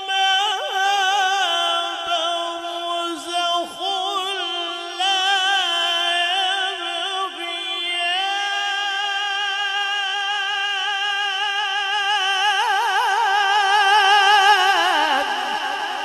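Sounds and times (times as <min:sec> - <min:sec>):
man reciting holding melodic note: 0:00.0 - 0:15.8.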